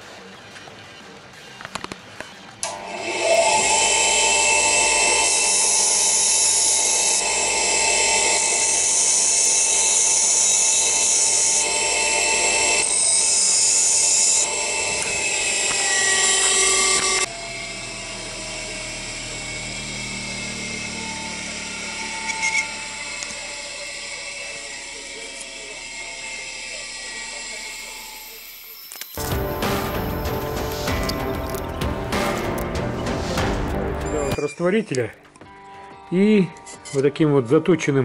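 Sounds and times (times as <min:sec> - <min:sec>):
bench grinder motor whine: 0:02.6 - 0:34.5.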